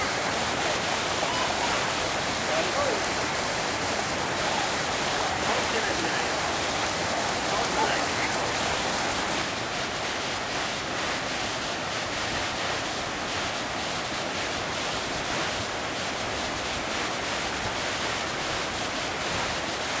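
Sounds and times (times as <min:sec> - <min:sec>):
river rapids roaring: 0:00.0 - 0:20.0.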